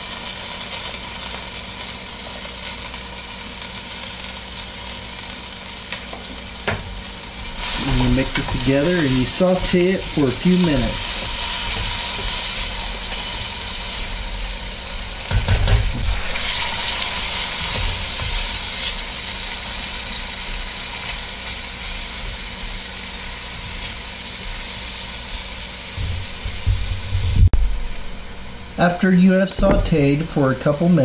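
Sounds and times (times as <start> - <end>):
vegetables sizzling in oil: 0.0 - 27.5.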